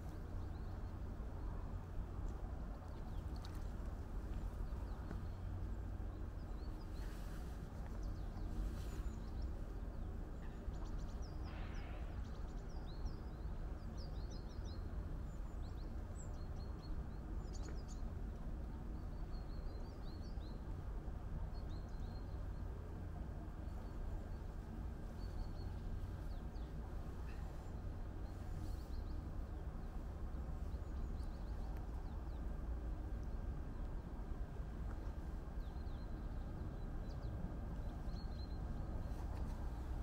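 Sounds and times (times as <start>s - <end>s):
small birds chirping: 0.0s - 40.0s
steady low rumble: 0.0s - 40.0s.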